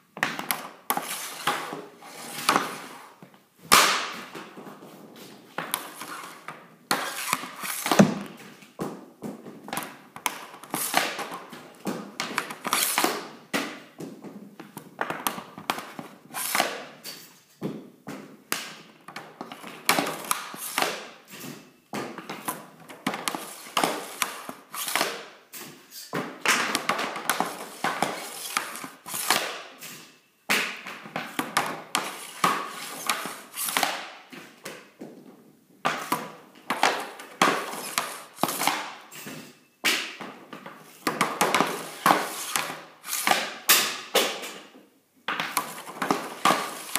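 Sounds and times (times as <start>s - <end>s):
pucks hitting net and wall: 0.0s - 46.9s
hockey pucks clacking: 0.1s - 46.9s.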